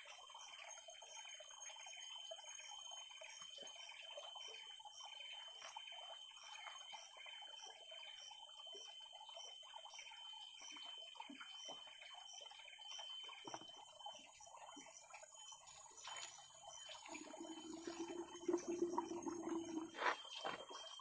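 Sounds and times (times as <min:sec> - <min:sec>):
regular insect chirp: 0:00.0 - 0:21.0.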